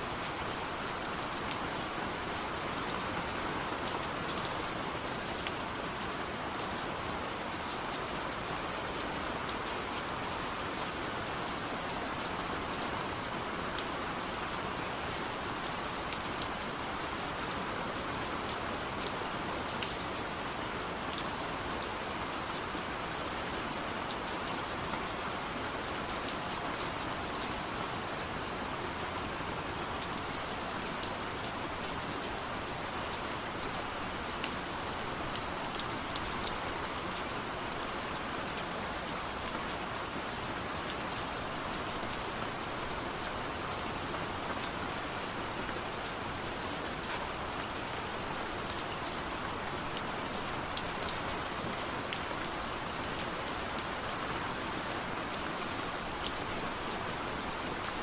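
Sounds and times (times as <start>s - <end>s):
raindrops ticking on a surface: 0.2s - 58.0s.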